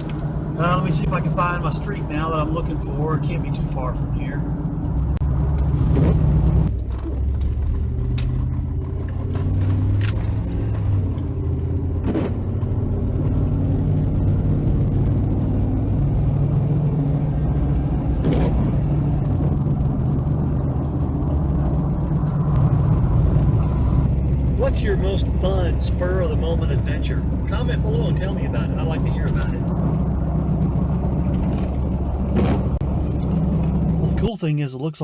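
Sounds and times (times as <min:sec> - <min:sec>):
truck engine and road rumble: 0:00.0 - 0:34.9.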